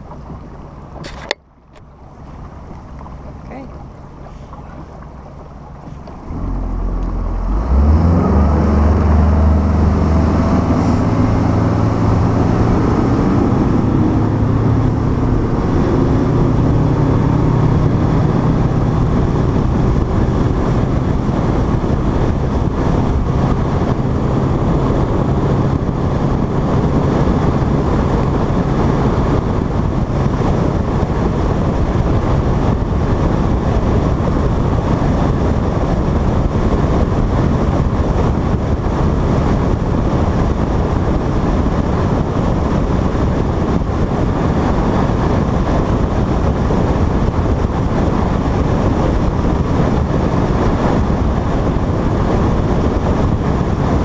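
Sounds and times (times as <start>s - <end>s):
outboard motor: 0.0s - 54.0s.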